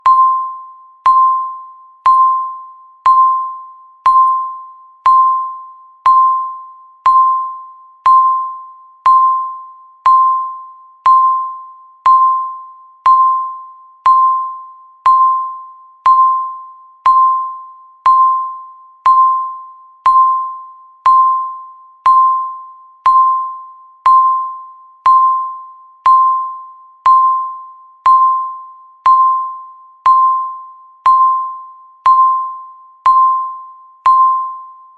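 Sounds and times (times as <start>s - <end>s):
electronic timer beeps: 0.0s - 34.9s.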